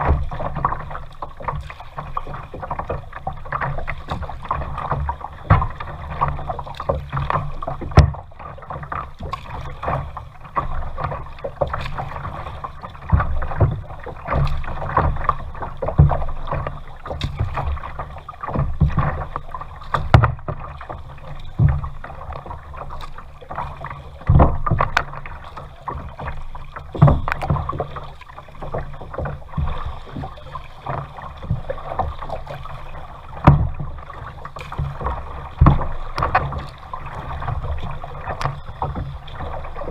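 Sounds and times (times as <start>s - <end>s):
paddle strokes knocking and splashing: 0.0s - 39.9s
water sloshing against kayak hull: 0.0s - 39.9s.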